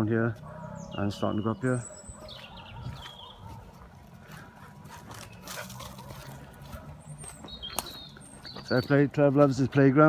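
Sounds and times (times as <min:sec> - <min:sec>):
bird chirp: 0:00.0 - 0:09.9.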